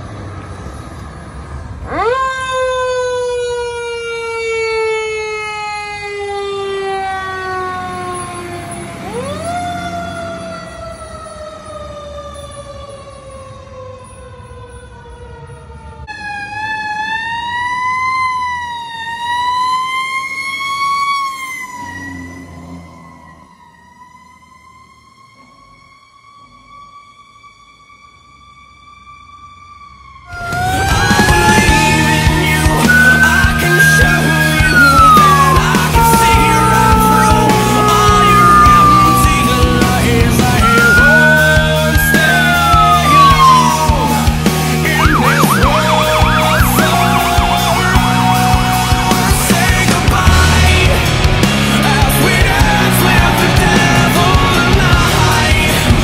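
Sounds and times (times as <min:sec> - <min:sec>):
truck engines rumbling: 0:00.0 - 0:56.0
wavering wailing siren: 0:00.5 - 0:50.3
fire truck siren winding up: 0:01.8 - 0:49.6.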